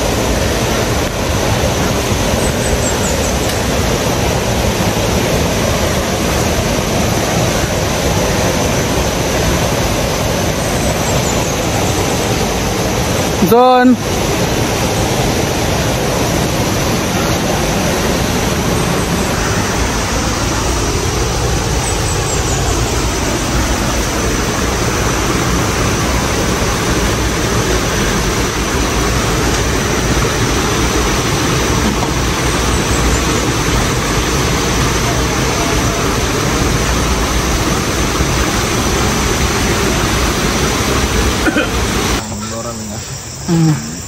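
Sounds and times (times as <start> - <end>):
loud rush of water: 0.0 - 44.0.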